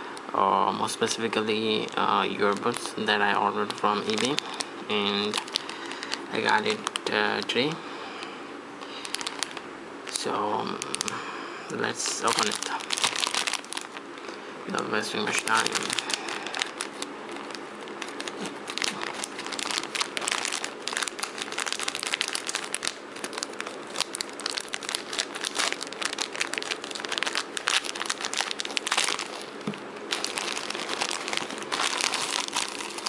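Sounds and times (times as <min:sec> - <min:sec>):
packaging crinkled and torn: 0:01.1 - 0:07.7, 0:08.8 - 0:11.2, 0:11.8 - 0:33.0.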